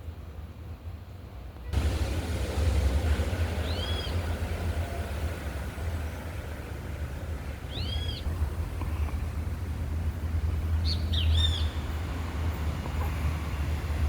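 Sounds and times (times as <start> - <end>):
noisy outdoor background: 0.0 - 14.0.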